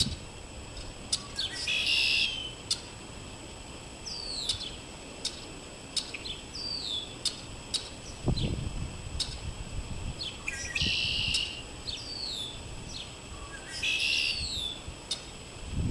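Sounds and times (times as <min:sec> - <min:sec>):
blackbird buzzy trilled song: 0:00.0 - 0:03.0, 0:04.0 - 0:09.5, 0:10.1 - 0:15.4.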